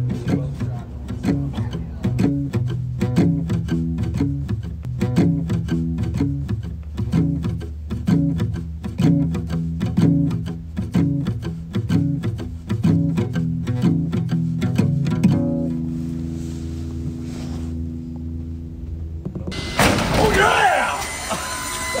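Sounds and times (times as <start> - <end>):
music with plucked low notes: 0.0 - 19.6.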